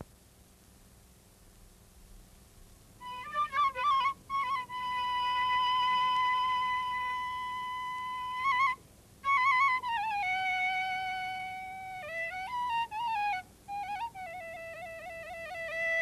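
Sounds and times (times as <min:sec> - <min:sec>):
solo flute melody: 0:03.0 - 0:16.0.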